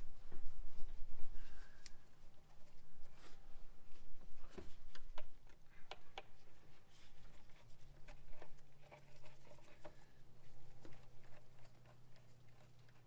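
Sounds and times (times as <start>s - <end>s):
faint steady low hum: 0.0s - 13.0s.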